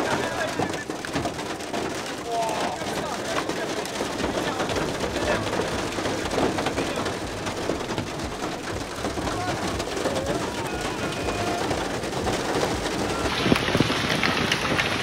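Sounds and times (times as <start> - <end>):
heavy rain on vehicle roof: 0.0 - 15.0.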